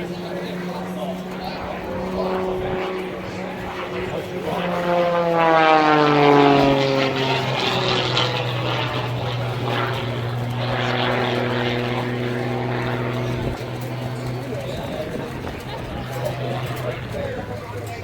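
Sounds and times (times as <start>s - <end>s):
propeller aircraft flying past: 0.0s - 18.0s.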